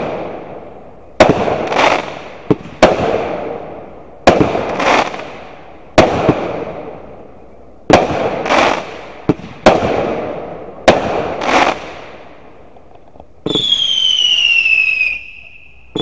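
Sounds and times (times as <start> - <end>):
fireworks bangs echoing: 0.0 - 12.8, 13.4 - 16.0.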